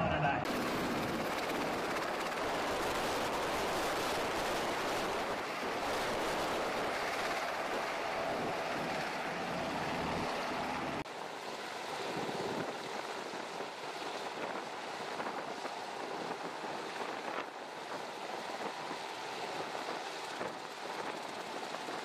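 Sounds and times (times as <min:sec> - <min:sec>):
helicopter rotor roar: 0:00.0 - 0:22.0.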